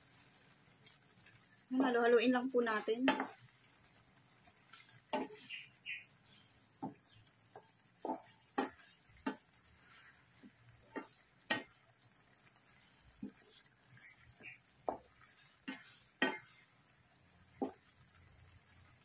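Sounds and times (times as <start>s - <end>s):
wooden spatula scraping a pan: 0.0s - 19.0s.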